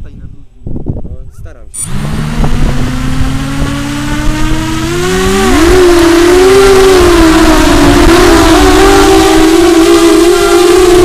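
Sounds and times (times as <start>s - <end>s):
drone motors whining: 1.8s - 11.0s.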